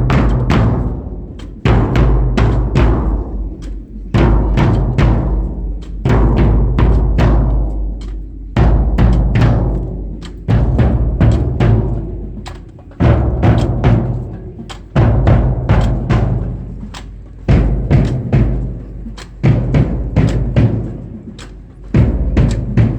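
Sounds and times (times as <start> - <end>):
heavy ringing drum hits: 0.0 - 16.9, 17.5 - 22.9.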